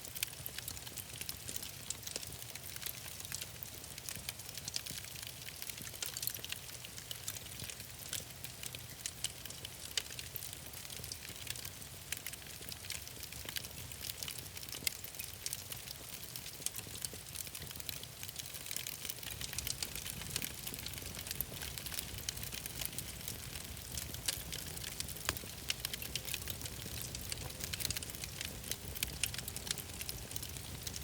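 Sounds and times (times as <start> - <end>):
wood fire crackling: 0.1 - 31.0.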